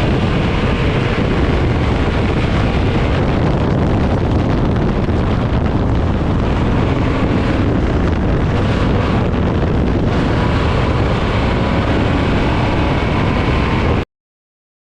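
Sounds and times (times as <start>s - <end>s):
race car engine din: 0.0s - 14.0s
wind buffeting microphone: 0.0s - 14.0s.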